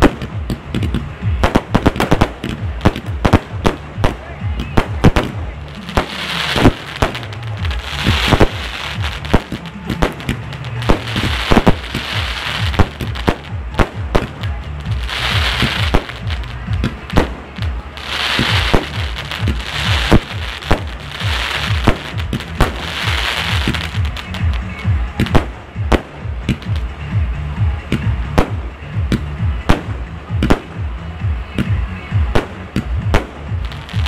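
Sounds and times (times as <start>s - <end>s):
firework bangs: 0.0s - 26.9s, 27.9s - 30.9s
background music with bass: 0.0s - 34.0s
crackling hiss of fireworks: 0.0s - 34.0s.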